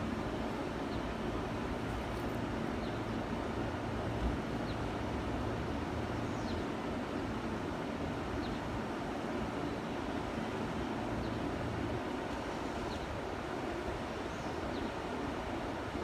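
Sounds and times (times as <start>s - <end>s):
railway platform ambient noise: 0.0s - 16.0s.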